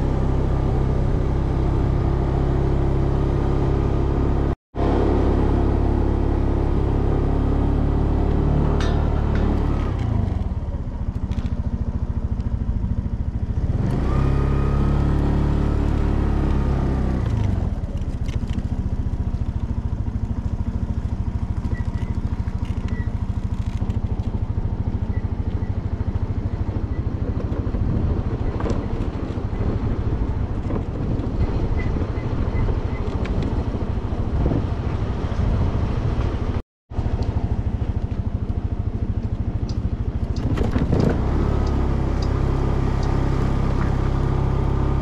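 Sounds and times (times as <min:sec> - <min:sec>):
vehicle engine revving: 0:00.0 - 0:11.5, 0:12.5 - 0:19.0, 0:19.7 - 0:45.0.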